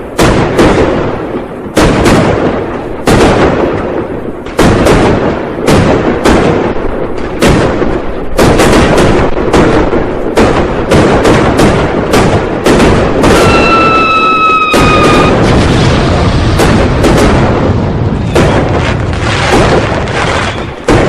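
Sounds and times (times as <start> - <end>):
firecrackers banging: 0.0 - 21.0
echoing rumble: 0.3 - 21.0.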